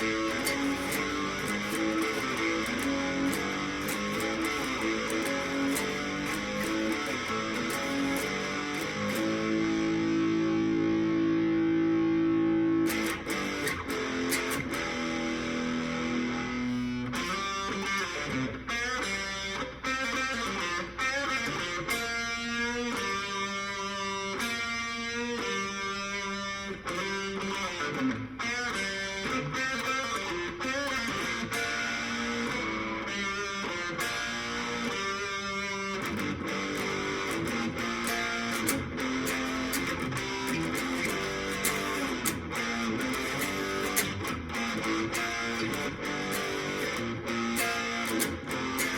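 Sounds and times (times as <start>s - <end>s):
overdriven electric guitar: 0.0s - 48.9s.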